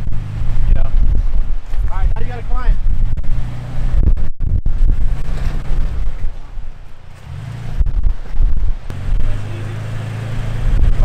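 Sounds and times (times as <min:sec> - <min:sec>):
truck engine pulling in low gear: 0:00.0 - 0:11.0
wind buffeting microphone: 0:00.0 - 0:11.0.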